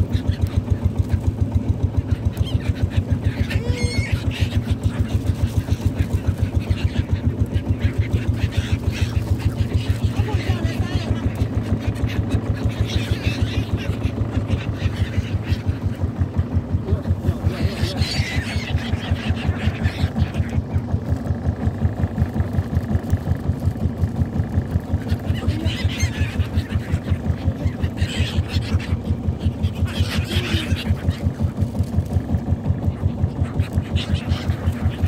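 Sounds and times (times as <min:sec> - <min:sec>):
boat engine thumping: 0:00.0 - 0:35.0
gulls calling: 0:00.0 - 0:35.0.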